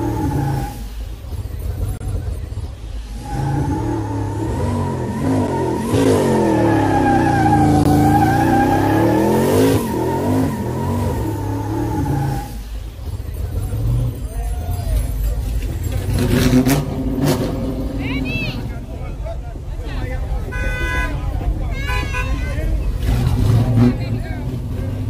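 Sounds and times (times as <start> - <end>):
car engine revving: 0.0 - 19.1, 22.8 - 25.0.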